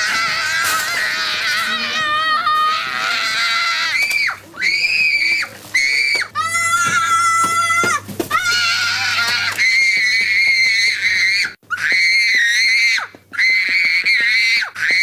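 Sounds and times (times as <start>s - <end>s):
child screaming: 0.0s - 15.0s.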